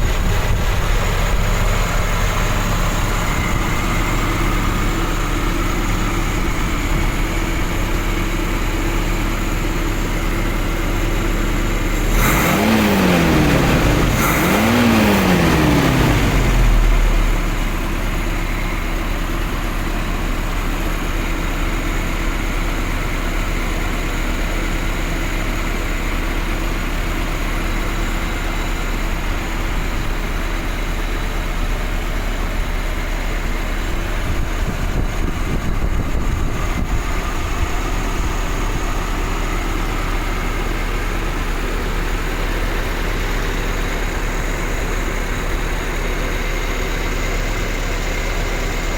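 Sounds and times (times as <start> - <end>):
truck engine idling and revving: 0.0 - 48.9.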